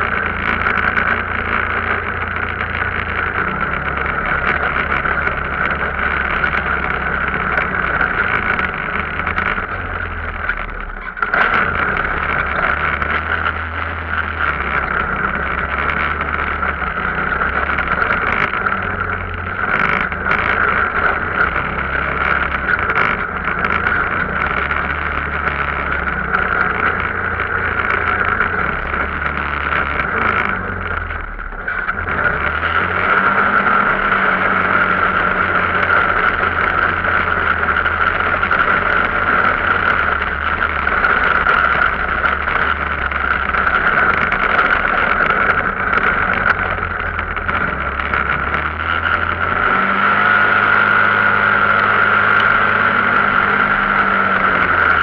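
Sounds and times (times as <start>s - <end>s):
high engine whine: 0.0s - 55.0s
off-road vehicle engine rumble: 0.0s - 55.0s.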